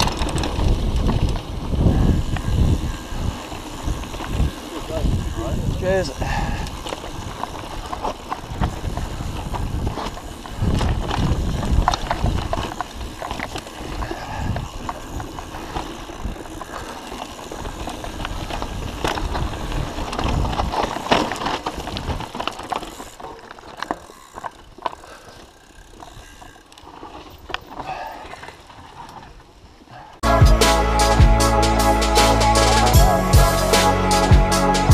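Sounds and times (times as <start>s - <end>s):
bike knocks and rattles: 0.0s - 29.3s
bike tyres rolling over dirt: 0.0s - 30.2s.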